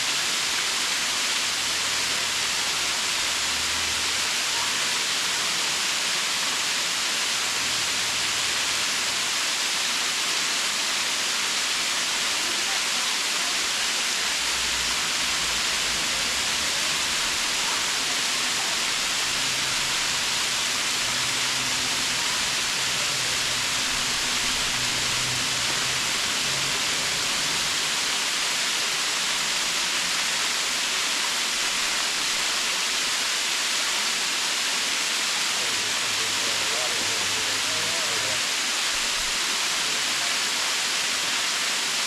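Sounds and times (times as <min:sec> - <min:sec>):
waterfall pouring: 0:00.0 - 0:42.0.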